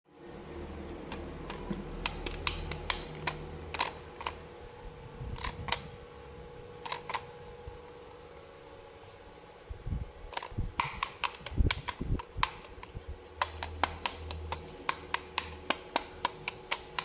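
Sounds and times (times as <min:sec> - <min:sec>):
faint steady hum: 0:00.1 - 0:17.0.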